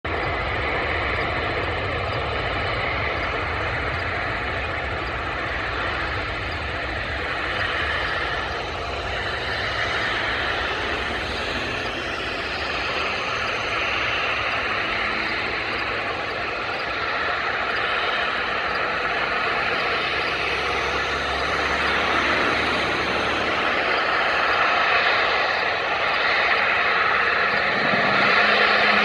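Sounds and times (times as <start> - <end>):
jet engines whining: 0.1 - 29.0.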